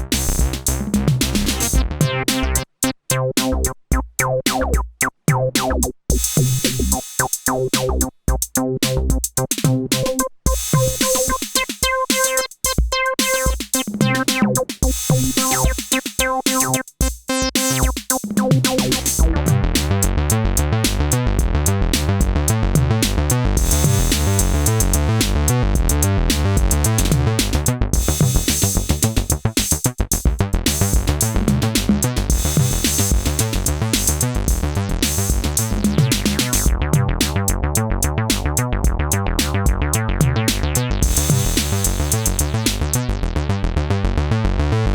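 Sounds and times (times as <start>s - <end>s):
drum machine beat: 0.0s - 43.0s
synthesizer bass line: 0.0s - 44.9s.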